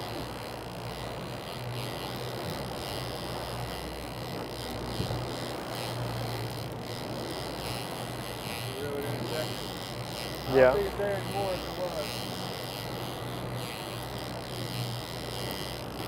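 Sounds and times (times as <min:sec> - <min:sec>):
outboard motor droning: 0:00.0 - 0:16.0.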